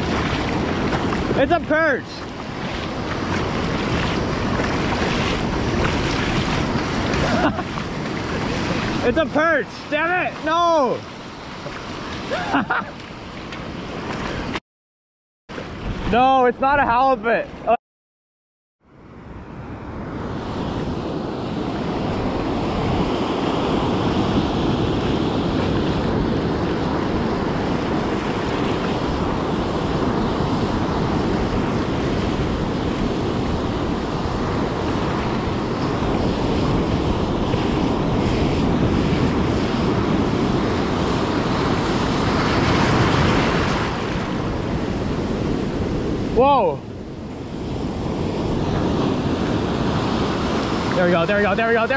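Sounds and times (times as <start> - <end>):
ocean surf breaking: 0.0 - 14.6, 15.5 - 17.8, 19.0 - 51.9
wind buffeting microphone: 0.0 - 14.6, 19.4 - 51.9.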